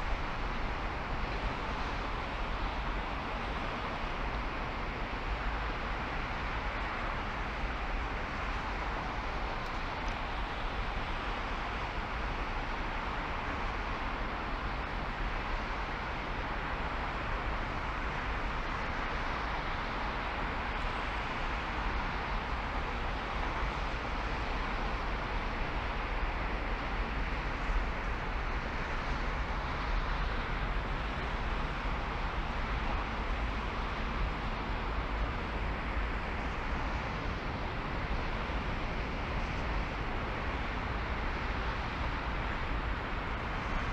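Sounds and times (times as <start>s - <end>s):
car road and wind noise: 0.0s - 43.9s.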